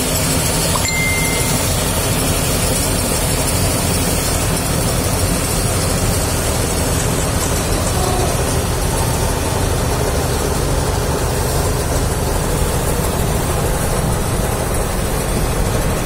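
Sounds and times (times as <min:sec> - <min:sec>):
tractor diesel engine drone: 0:00.0 - 0:16.0.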